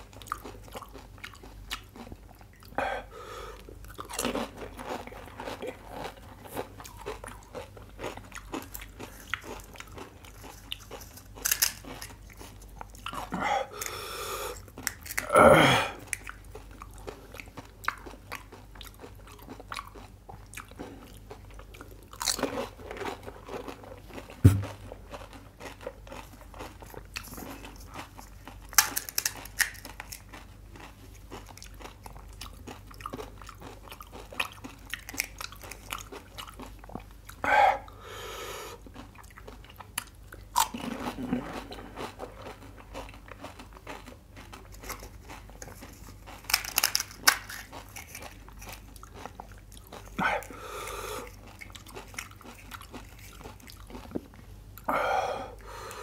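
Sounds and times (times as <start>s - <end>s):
chewing crisp snacks: 0.0s - 38.0s, 38.6s - 56.0s.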